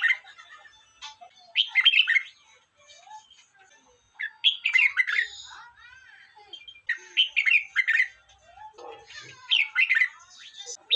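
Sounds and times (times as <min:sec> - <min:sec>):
bird singing warbled phrases: 0:00.0 - 0:10.9
faint bird chirps: 0:01.0 - 0:03.3, 0:04.1 - 0:10.9.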